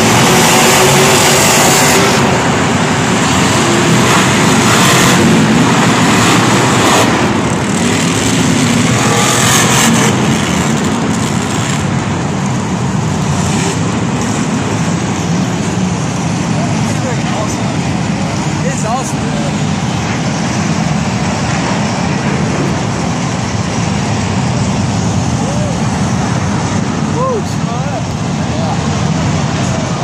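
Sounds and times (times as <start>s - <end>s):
monster truck engines revving: 0.0s - 30.0s.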